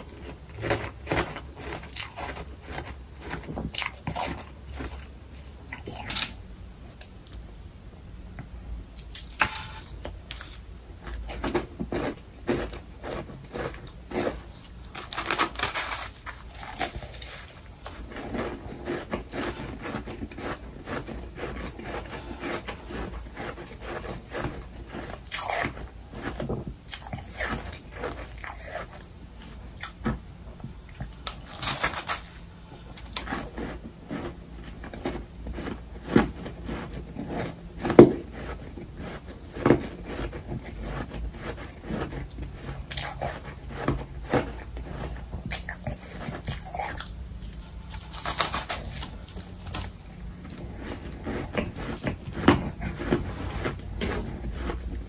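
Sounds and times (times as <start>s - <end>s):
crunchy chewing of frost: 0.0s - 7.4s, 9.0s - 55.0s.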